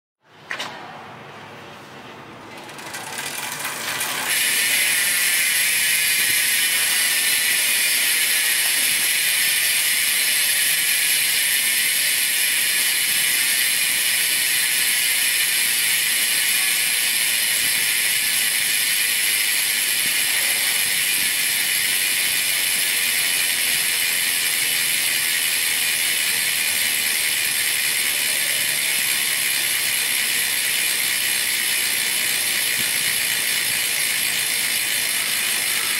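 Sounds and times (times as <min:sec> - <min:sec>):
bicycle freehub ratchet buzzing: 0:02.5 - 0:35.9.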